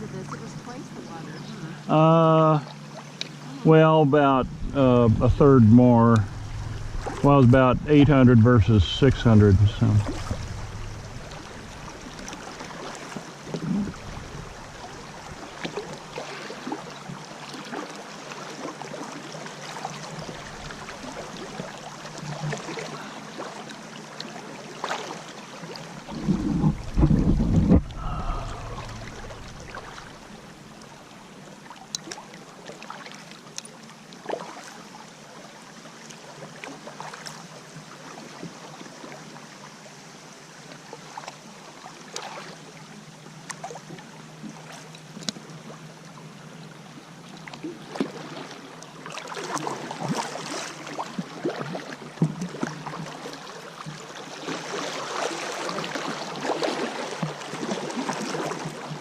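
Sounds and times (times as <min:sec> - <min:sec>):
rushing river water: 0:00.0 - 0:59.0
paddle splashes and drips: 0:01.8 - 0:03.6, 0:08.8 - 0:59.0.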